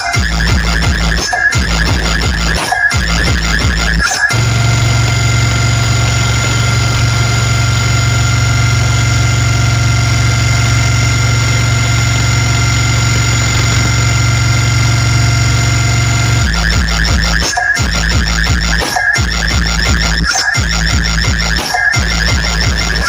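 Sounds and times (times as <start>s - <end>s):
dubstep-style electronic music: 0.0s - 23.0s
electronic bass drone: 0.0s - 23.0s.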